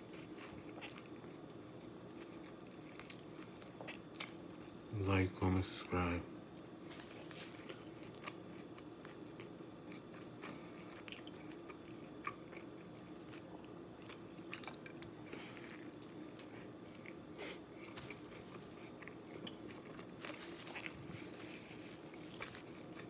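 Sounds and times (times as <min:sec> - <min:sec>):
person chewing food: 0:00.0 - 0:04.7, 0:06.9 - 0:23.0
steady low hum: 0:00.0 - 0:23.0.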